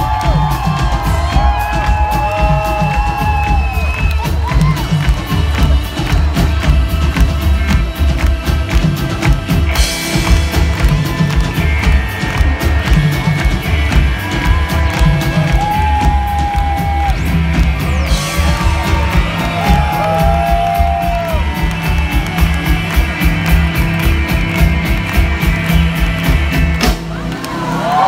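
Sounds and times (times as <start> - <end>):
funk rock band playing: 0.0 - 28.0.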